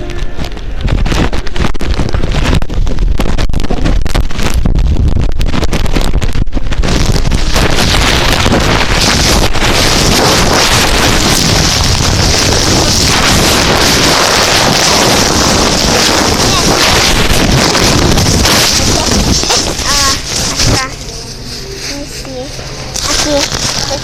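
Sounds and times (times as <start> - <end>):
bag rustling and crinkling: 0.0 - 24.0.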